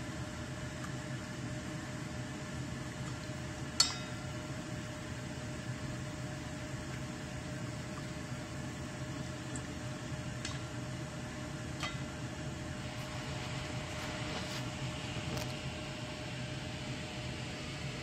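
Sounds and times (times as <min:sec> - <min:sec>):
background hum: 0:00.0 - 0:18.0.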